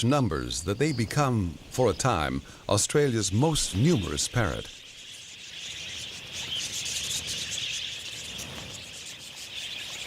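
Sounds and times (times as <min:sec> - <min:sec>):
flock of budgerigars chattering: 0:00.0 - 0:10.0.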